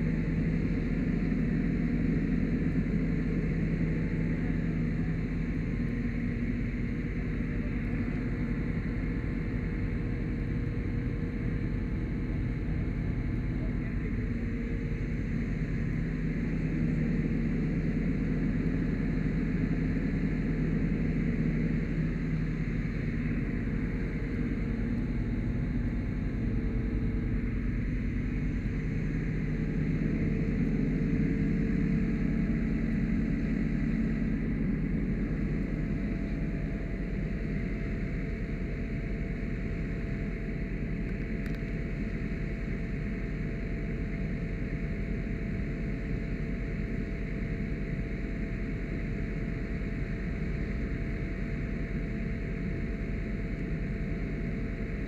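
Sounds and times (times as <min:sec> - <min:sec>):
diesel engine running: 0:00.0 - 0:44.6
pump whine: 0:00.0 - 0:55.0.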